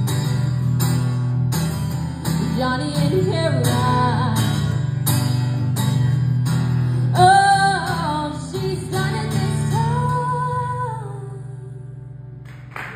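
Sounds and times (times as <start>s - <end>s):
strummed acoustic guitar: 0.0s - 12.7s.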